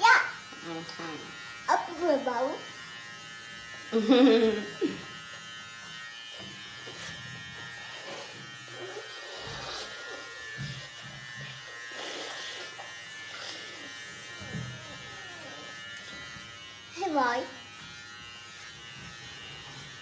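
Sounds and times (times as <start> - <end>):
electric hair clipper buzzing: 0.0 - 20.0.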